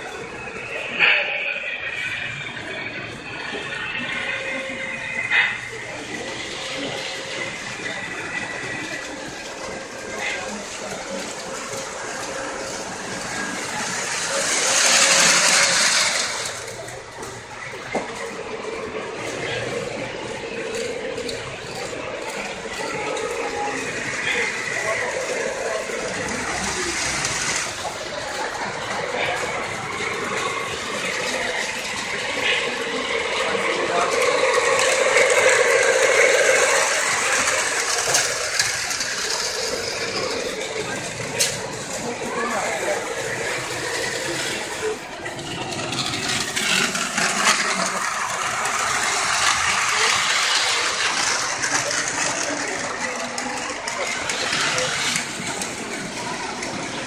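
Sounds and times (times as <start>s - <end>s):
model train running: 0.0s - 57.0s.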